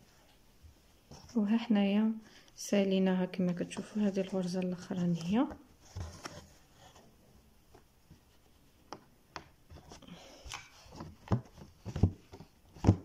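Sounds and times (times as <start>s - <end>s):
soft rubbing and handling noise: 0.0s - 13.0s.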